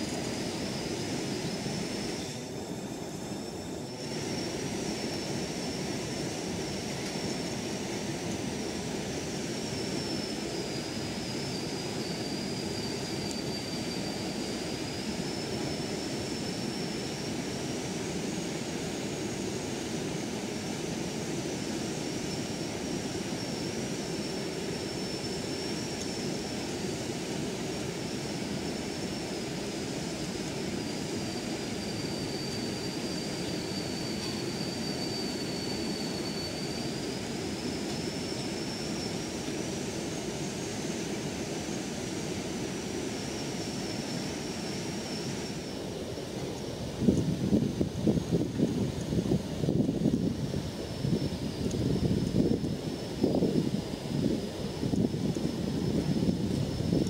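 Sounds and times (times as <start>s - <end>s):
thin high whine: 0.0s - 57.0s.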